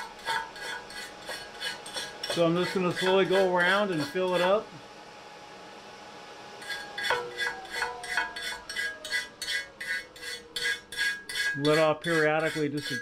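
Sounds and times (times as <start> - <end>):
pulsing welding arc: 0.0 - 4.9, 6.6 - 13.0.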